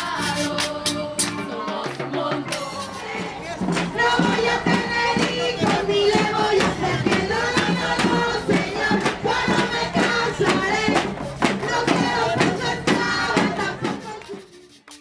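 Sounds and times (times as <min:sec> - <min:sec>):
group of voices singing: 0:00.0 - 0:15.0
steady percussive beat: 0:00.0 - 0:15.0.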